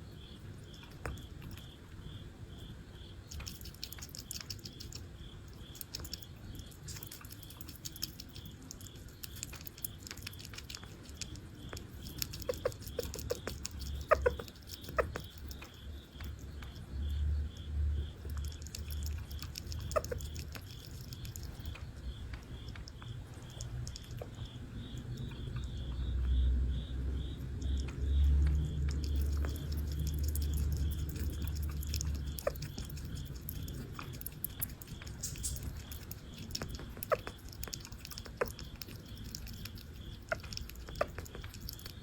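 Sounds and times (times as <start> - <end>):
sugar glider chewing clicks: 0.1 - 42.0.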